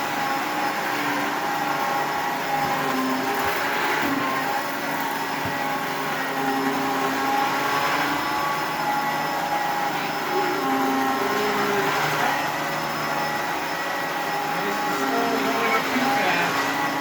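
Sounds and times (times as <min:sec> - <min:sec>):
vacuum cleaner running on carpet: 0:00.0 - 0:17.0.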